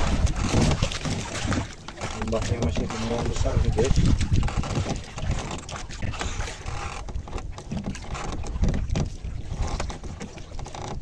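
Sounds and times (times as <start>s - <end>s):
wind buffeting microphone: 0.0s - 10.2s
waves slapping against boat: 0.0s - 11.0s.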